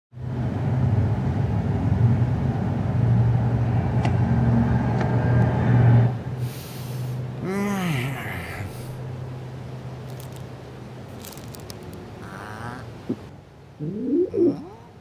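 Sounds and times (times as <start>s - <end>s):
low rumble of traffic: 0.2s - 15.0s.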